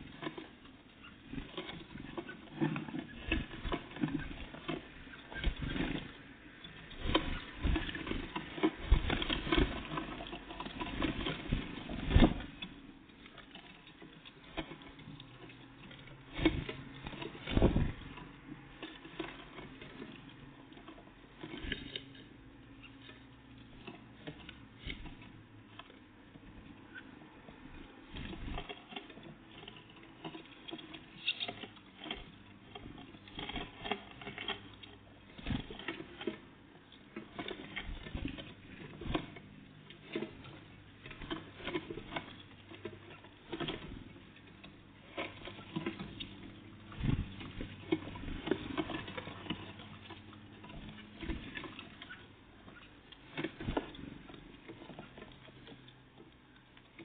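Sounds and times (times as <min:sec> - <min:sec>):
birds pecking and tapping: 0:00.0 - 0:57.0.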